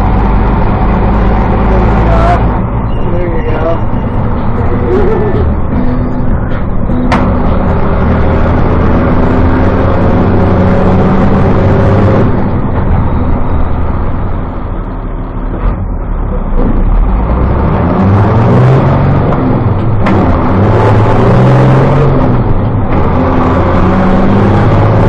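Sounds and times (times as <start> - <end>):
diesel bus engine revving: 0.0 - 25.0.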